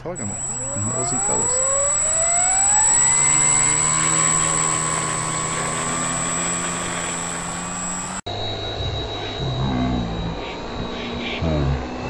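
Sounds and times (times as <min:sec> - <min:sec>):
thin high-pitched tone: 0:00.0 - 0:10.6
electric motor and propeller whine: 0:00.0 - 0:12.0.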